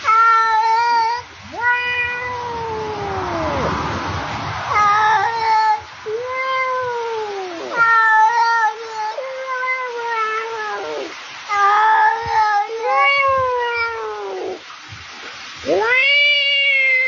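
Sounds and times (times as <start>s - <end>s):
cat yowling meows: 0.0s - 4.0s, 4.6s - 14.6s, 15.6s - 17.0s.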